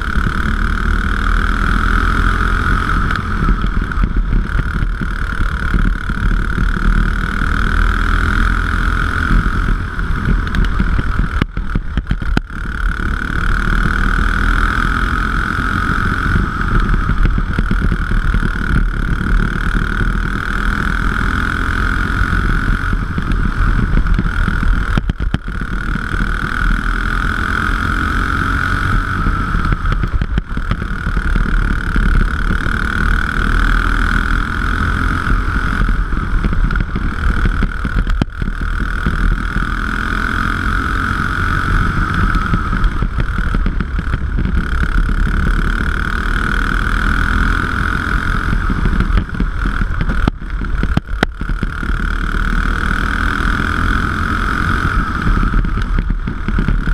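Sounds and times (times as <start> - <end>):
kart engine running hard: 0.0 - 56.9.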